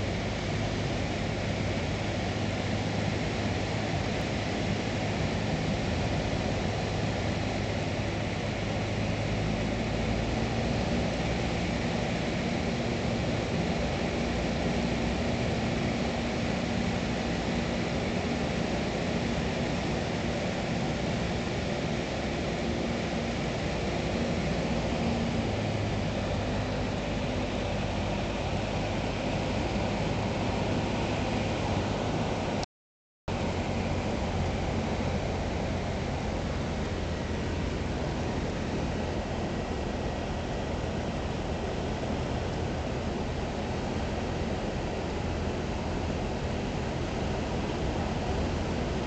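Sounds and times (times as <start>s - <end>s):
propeller plane engine droning: 0.0s - 32.7s, 33.3s - 49.0s.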